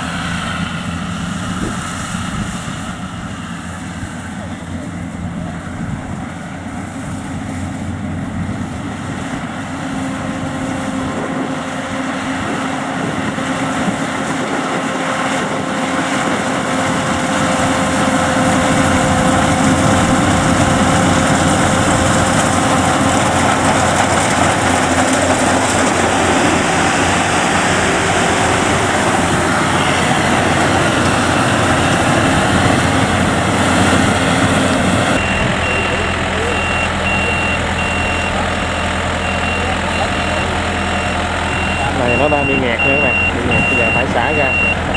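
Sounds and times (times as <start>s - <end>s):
combine harvester engine drone: 0.0s - 44.9s.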